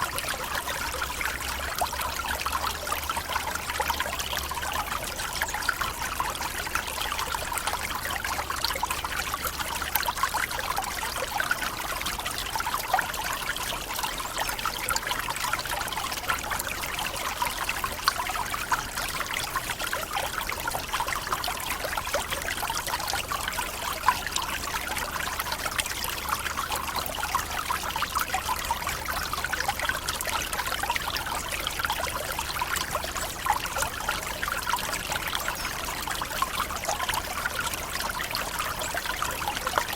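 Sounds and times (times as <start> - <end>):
small waterfall splashing over rocks: 0.0 - 39.9.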